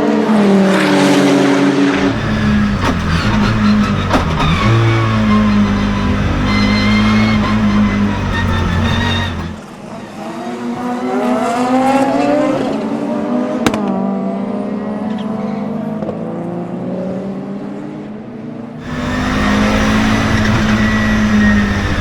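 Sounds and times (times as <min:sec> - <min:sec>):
race car engine accelerating: 0:00.0 - 0:17.9, 0:18.8 - 0:22.0.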